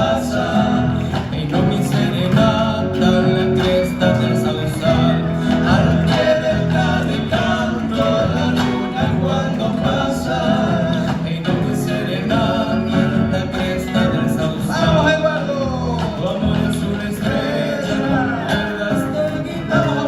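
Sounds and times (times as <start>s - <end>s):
acoustic guitar: 0.0s - 20.0s
person singing folk song: 0.0s - 20.0s.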